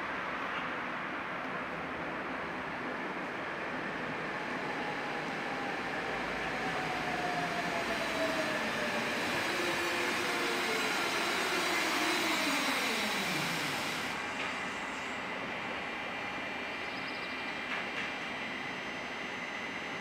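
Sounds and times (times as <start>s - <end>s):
tram rolling on rails: 0.1s - 16.8s
tram electric drive whining: 2.2s - 20.0s.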